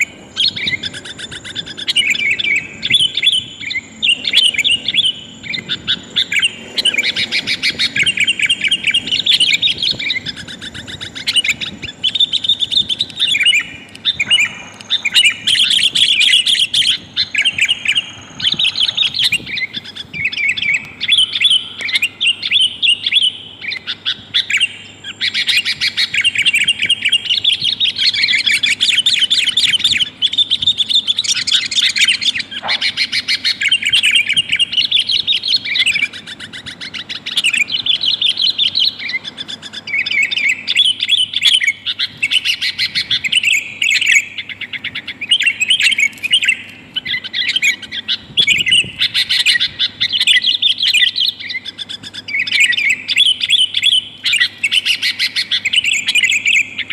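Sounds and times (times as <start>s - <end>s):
bulbul chattering chirps: 0.0s - 56.9s.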